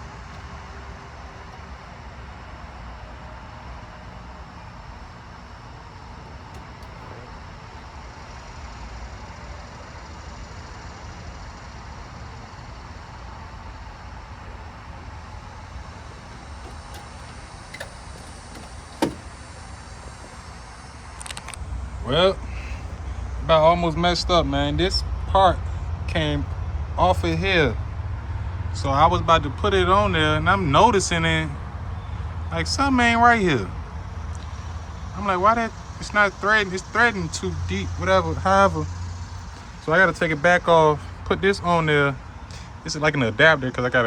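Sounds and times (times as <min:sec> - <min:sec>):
low traffic rumble: 0:00.0 - 0:44.0.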